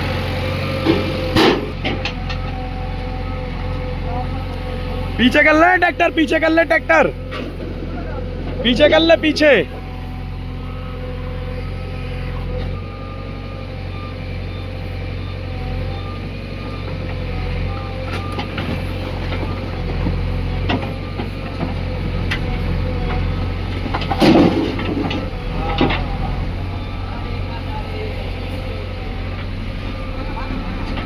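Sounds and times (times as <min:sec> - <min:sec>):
diesel engines running: 0:00.0 - 0:31.0.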